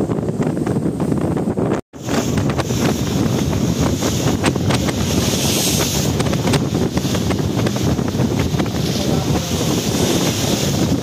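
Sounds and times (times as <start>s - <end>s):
ship engine low rumble: 0.0s - 11.0s
wind buffeting microphone: 0.0s - 11.0s.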